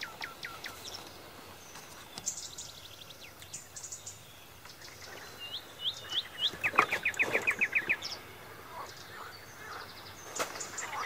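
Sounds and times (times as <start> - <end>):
faint outdoor background: 0.0 - 11.0
songbirds chirping: 0.0 - 11.0.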